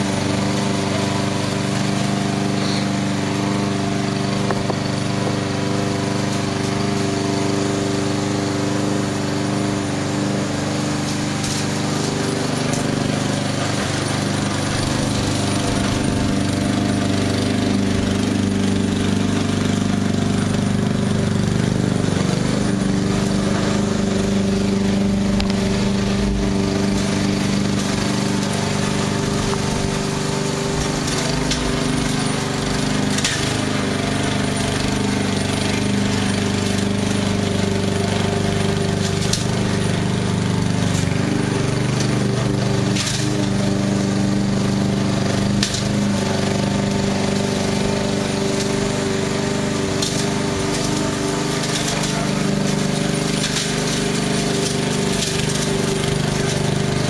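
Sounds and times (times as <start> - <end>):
lawnmower engine hum: 0.0 - 57.0.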